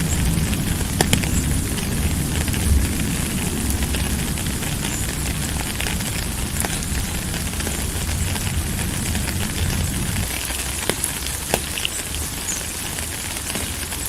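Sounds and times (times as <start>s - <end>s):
low rumble: 0.0s - 11.4s
steady rain falling: 0.0s - 14.0s.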